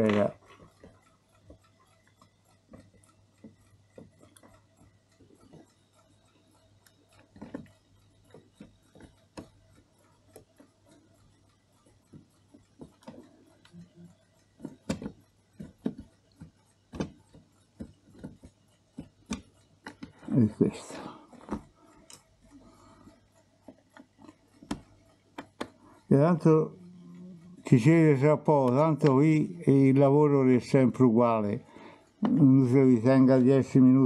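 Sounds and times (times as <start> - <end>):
faint steady hum: 0.0 - 34.0
metallic clicks on clock parts: 0.0 - 34.0.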